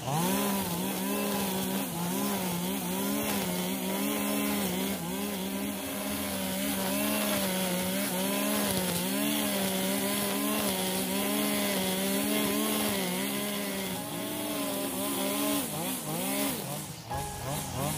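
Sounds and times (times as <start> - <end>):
brush cutter engine cutting grass: 0.0 - 17.9.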